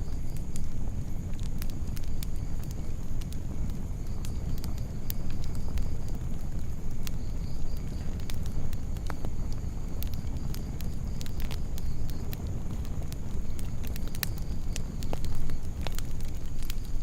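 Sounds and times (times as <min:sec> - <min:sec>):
fire low rumble: 0:00.0 - 0:17.0
wood crackling and popping: 0:00.0 - 0:17.0.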